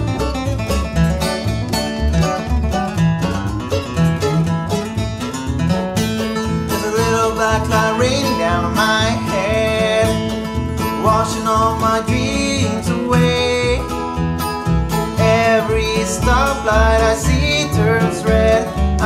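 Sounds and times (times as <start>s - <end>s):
acoustic bluegrass band playing: 0.0s - 19.0s
plucked bass pulse: 0.0s - 19.0s
sliding picked melody: 0.0s - 19.0s.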